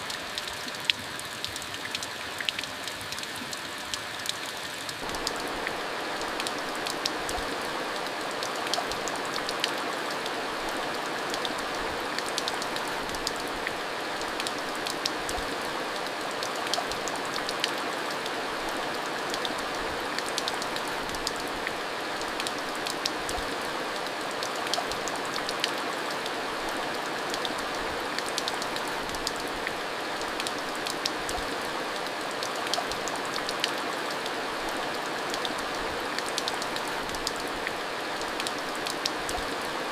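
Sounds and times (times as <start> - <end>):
rain hissing: 5.0 - 39.9.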